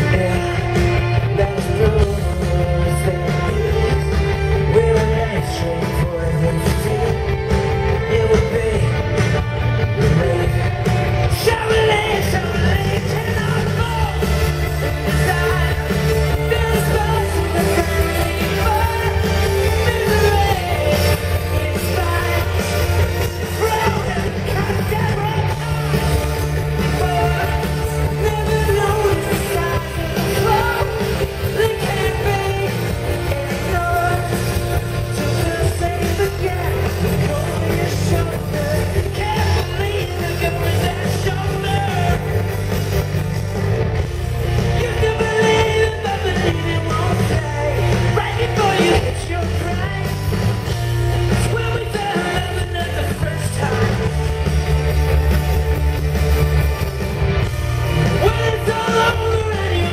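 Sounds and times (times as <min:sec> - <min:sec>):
person singing: 0:00.0 - 0:42.7, 0:44.4 - 0:54.4, 0:57.9 - 0:59.9
bass guitar: 0:00.0 - 0:59.9
drums: 0:00.0 - 0:59.9
electric guitars: 0:00.0 - 0:59.9
keyboards: 0:00.0 - 0:59.9.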